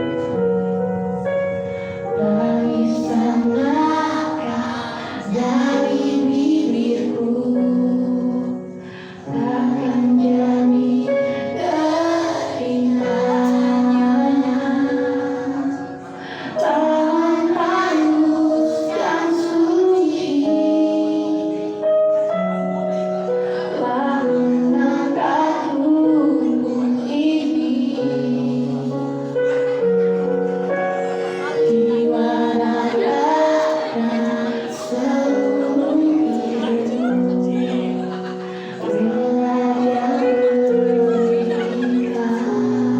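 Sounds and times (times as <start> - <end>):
person singing: 2.0 - 22.5, 23.3 - 30.3, 31.0 - 42.9.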